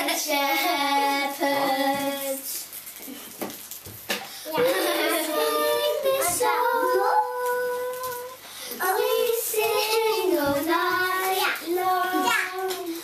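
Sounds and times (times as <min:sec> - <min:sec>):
children singing unaccompanied: 0:00.0 - 0:02.6, 0:04.5 - 0:13.0.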